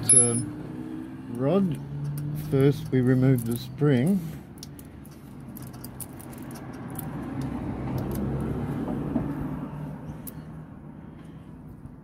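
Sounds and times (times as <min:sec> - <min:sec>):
passing vehicle rumbling: 0:00.0 - 0:12.0.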